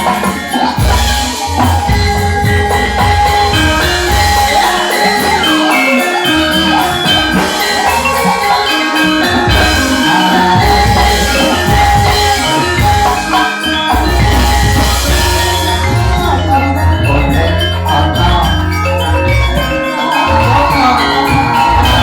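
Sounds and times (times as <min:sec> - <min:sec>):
drums: 0:00.0 - 0:22.0
tuned metal percussion ringing: 0:00.0 - 0:22.0
wavering melodic line: 0:00.0 - 0:22.0.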